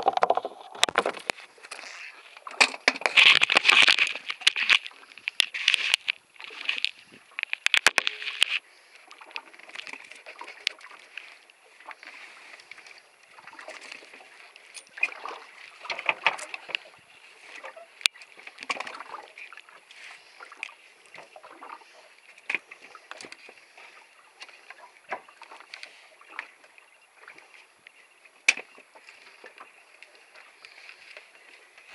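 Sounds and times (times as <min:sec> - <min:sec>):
water sloshing: 0:00.0 - 0:31.9.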